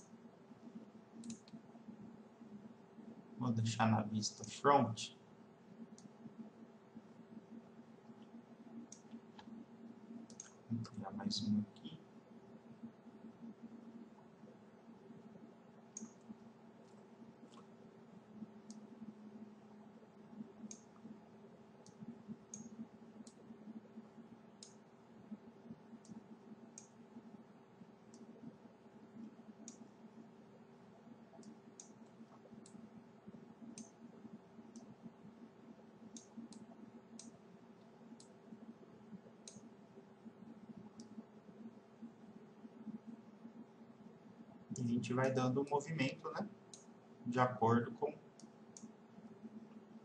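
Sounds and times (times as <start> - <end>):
low electrical hum: 0.0 - 50.0.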